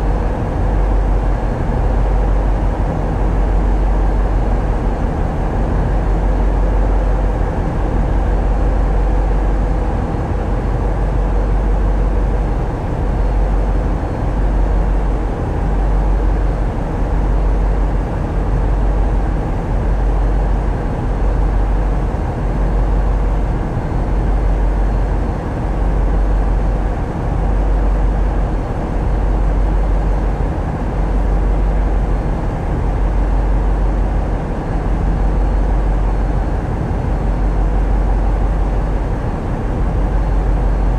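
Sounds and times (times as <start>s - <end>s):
boat diesel engine drone: 0.0s - 40.9s.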